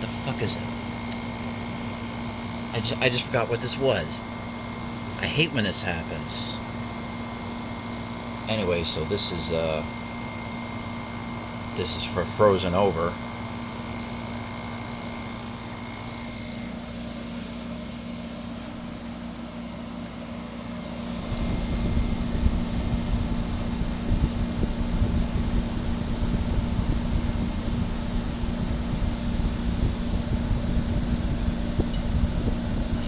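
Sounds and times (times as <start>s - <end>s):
air conditioner humming: 0.0s - 33.0s.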